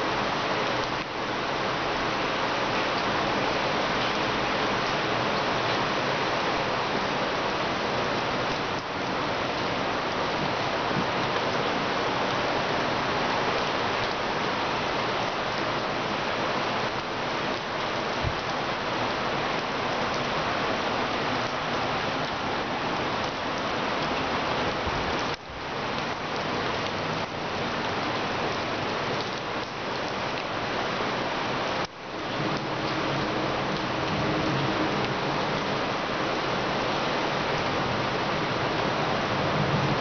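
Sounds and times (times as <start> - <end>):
heavy rain on pavement: 0.0 - 40.0.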